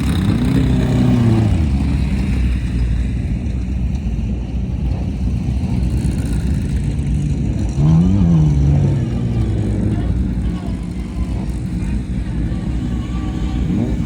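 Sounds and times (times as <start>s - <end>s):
race vehicle engine rumble: 0.0s - 14.0s.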